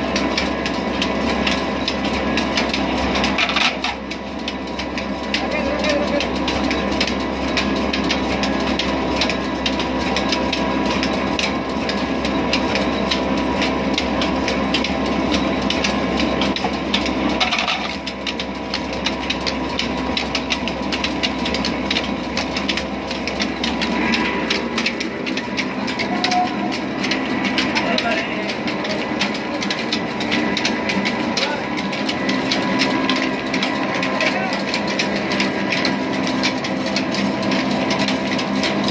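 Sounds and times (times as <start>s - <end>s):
belts and machinery clattering: 0.0s - 38.9s
diesel engine running: 0.0s - 38.9s.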